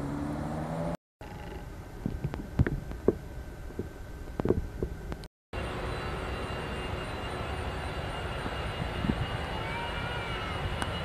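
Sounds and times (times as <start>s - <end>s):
jet engines idling: 1.2s - 11.0s.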